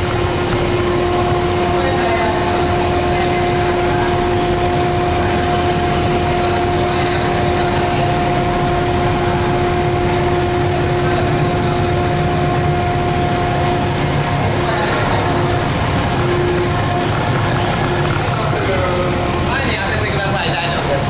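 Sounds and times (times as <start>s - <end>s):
machinery drone: 0.0s - 21.0s
two-pitch hum: 0.0s - 21.0s.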